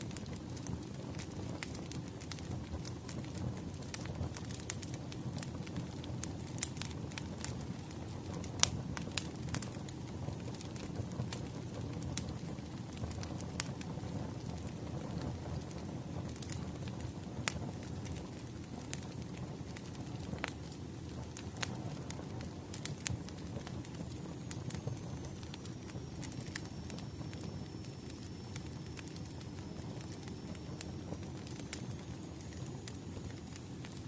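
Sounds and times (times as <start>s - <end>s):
burning logs rumbling: 0.0s - 34.0s
fire pops and snaps: 0.0s - 34.0s
wood fire crackling: 0.0s - 34.0s.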